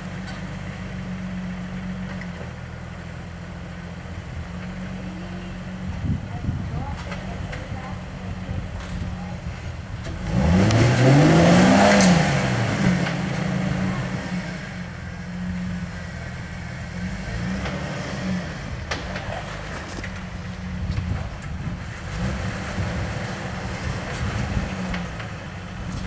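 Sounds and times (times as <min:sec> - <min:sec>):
engine idling and revving: 0:00.0 - 0:26.0.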